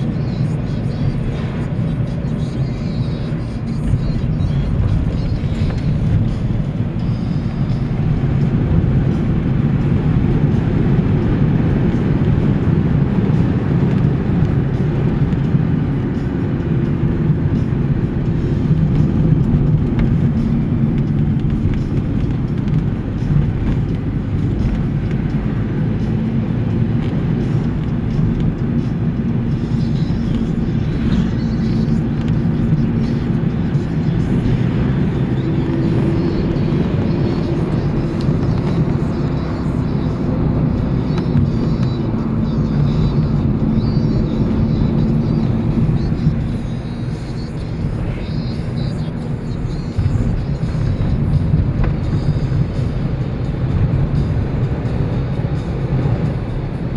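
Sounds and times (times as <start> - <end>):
van engine and road rumble: 0.0 - 56.9.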